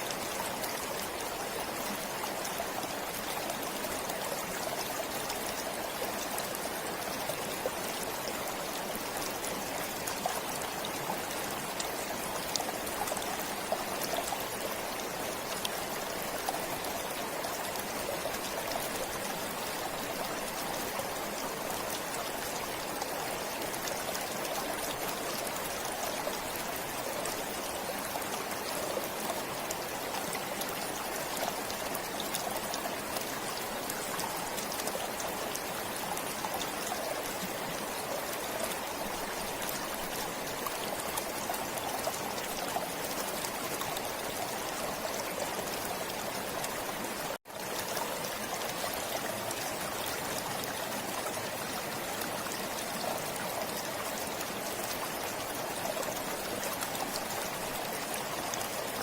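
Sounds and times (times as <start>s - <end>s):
forest stream flowing: 0.0s - 59.0s.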